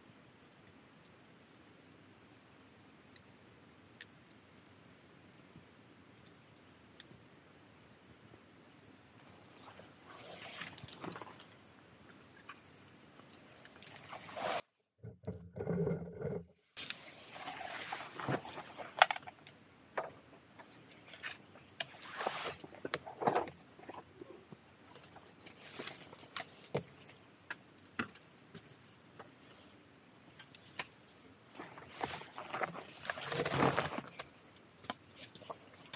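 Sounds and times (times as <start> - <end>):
wood fire crackling: 0.0 - 14.7, 15.6 - 35.9
soft hiss of flames: 0.0 - 14.8, 16.6 - 35.9.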